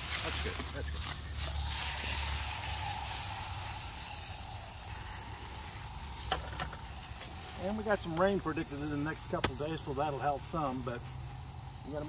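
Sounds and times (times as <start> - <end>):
hose nozzle spray hissing: 0.0 - 12.0.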